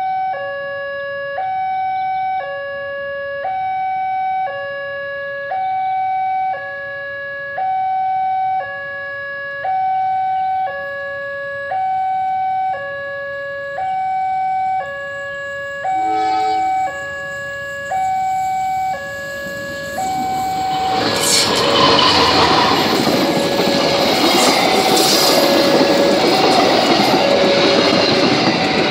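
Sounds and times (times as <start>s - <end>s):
two-tone electronic alarm: 0.0s - 28.9s.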